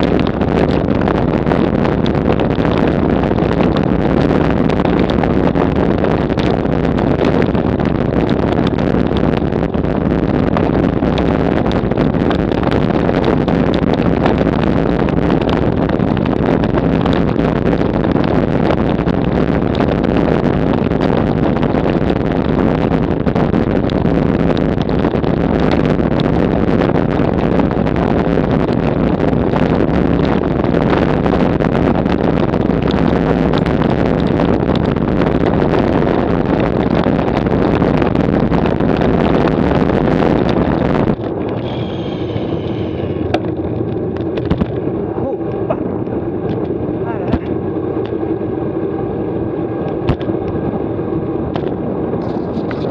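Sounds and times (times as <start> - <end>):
bike rattling over cobblestones: 0.0 - 41.9, 43.0 - 52.9
bike rolling on smooth tarmac: 0.0 - 52.9
wind on microphone: 0.0 - 52.9.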